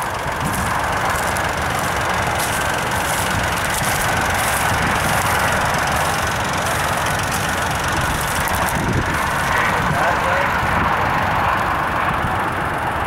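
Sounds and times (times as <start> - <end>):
car engine running under load: 0.0 - 13.0
tires spinning in mud: 0.0 - 13.0.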